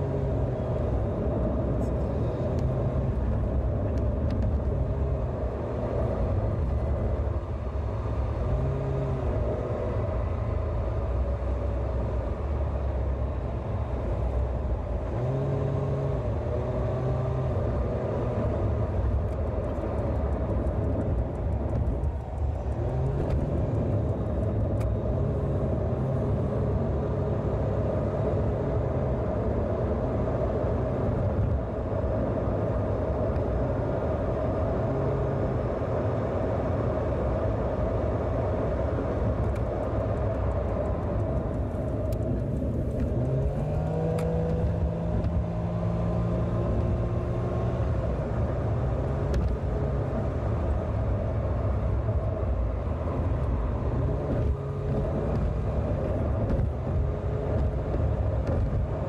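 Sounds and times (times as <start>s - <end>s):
car engine hum: 0.0s - 59.0s
road rumble: 0.0s - 59.0s.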